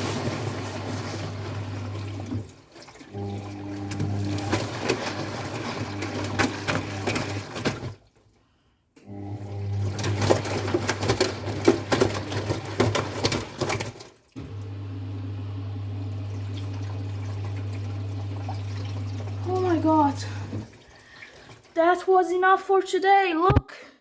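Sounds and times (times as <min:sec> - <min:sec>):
washing machine hum: 0:00.0 - 0:08.3, 0:09.0 - 0:22.3
water splashing and clattering: 0:00.0 - 0:08.4, 0:09.4 - 0:14.8, 0:16.0 - 0:22.4.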